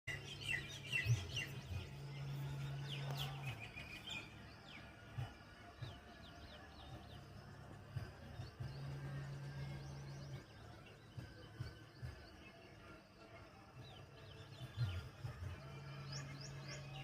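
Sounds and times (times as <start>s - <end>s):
small birds chirping: 0.1s - 17.0s
steady low hum: 0.1s - 17.0s.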